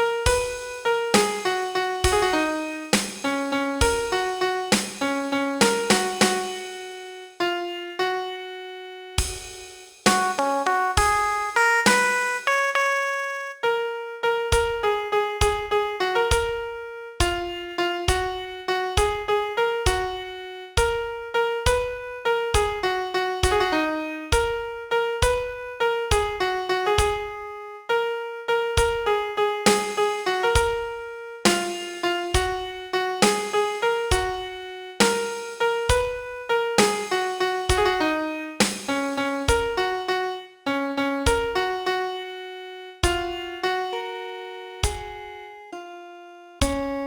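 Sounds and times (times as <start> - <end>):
piano ballad melody: 0.0 - 45.9.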